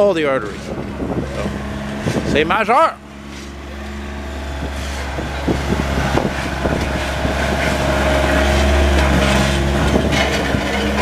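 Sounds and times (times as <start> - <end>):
diesel machinery rumbling: 0.0 - 11.0.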